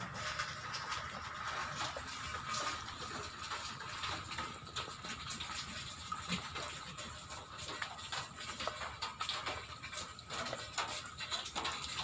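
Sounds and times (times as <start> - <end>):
rain on metal roof and water: 0.0 - 12.0.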